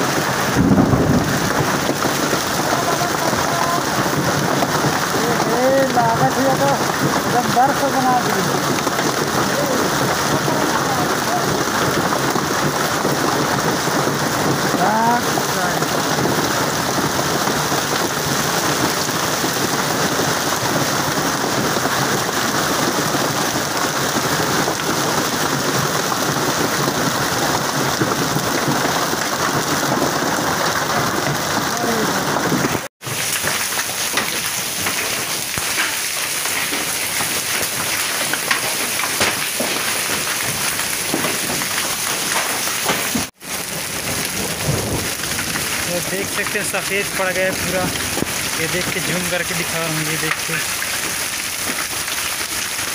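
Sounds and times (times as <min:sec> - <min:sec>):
hailstone impacts: 0:00.0 - 0:52.9
heavy rain and hail: 0:00.0 - 0:52.9.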